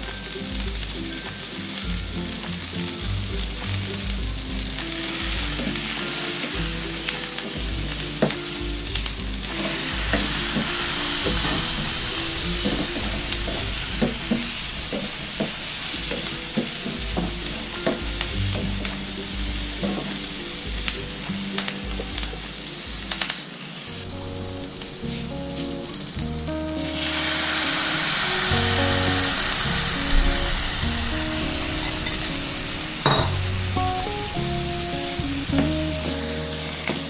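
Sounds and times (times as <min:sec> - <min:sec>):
vegetables sizzling in frying pan: 0:00.0 - 0:37.0.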